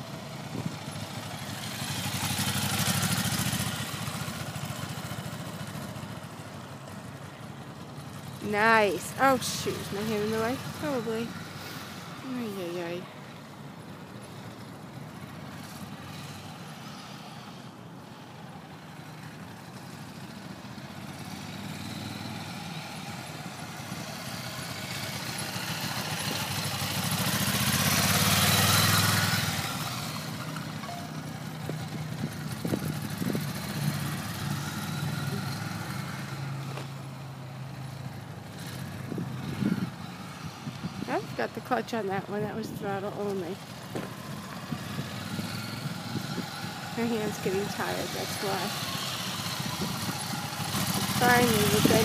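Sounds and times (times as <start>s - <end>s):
motorcycle engine at low speed: 0.0s - 52.0s.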